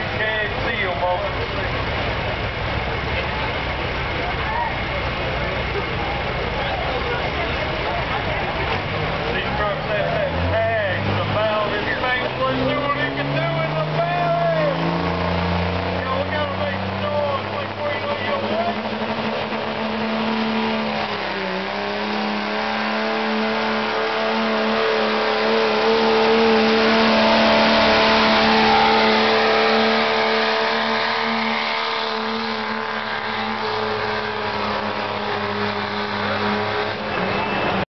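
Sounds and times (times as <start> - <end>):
diesel truck engine at high revs: 0.0 - 37.9.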